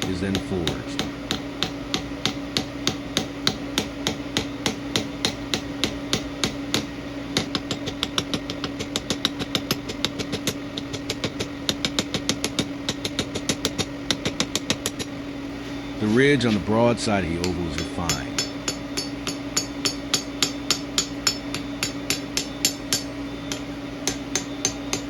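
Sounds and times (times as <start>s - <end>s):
power hammer striking metal: 0.0s - 15.2s, 16.1s - 25.0s
steady machine hum: 0.0s - 25.0s.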